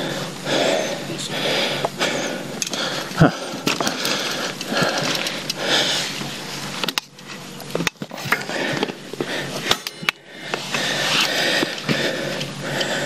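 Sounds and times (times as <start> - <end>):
bike clicks and rattles: 0.0 - 13.0
bike tyres crunching over dirt: 0.0 - 13.0.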